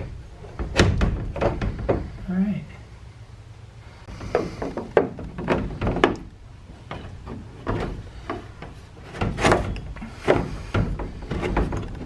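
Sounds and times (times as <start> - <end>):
knocks and clunks of plastic parts: 0.0 - 2.2, 4.1 - 12.0.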